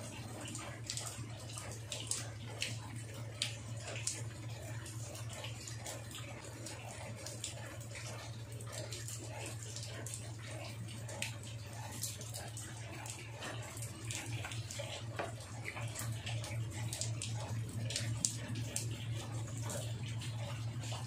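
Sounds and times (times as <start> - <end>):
water running and splashing: 0.0 - 21.0.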